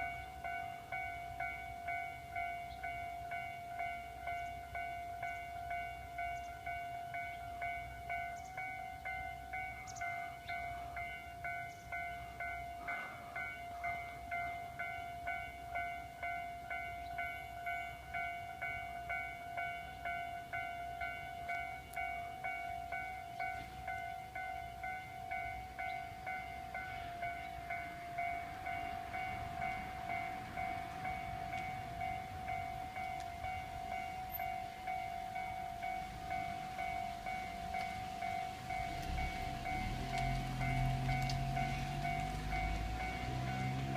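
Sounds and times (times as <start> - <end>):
level crossing warning bell: 0.0 - 43.9
train rumble: 0.0 - 43.9.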